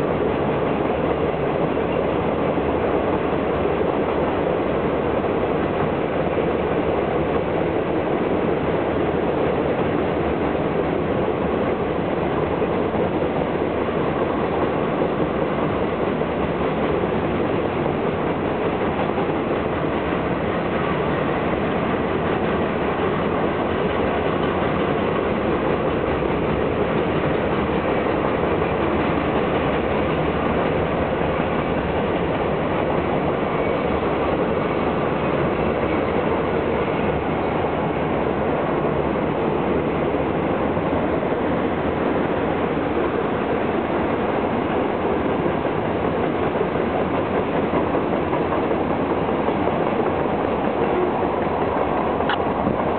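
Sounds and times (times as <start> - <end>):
freight train wheels rumbling on rails: 0.0 - 52.9.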